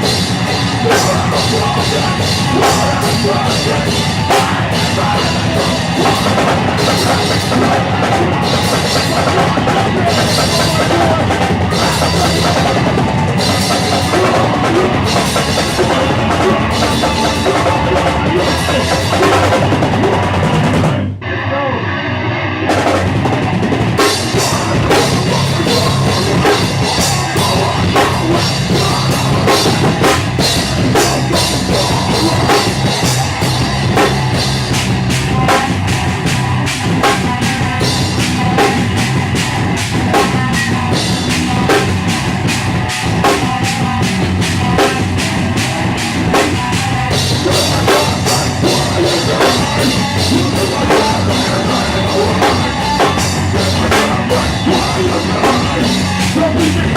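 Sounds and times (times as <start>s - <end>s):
drum kit beat: 0.0s - 21.0s, 22.7s - 56.9s
live rock band playing: 0.0s - 56.9s.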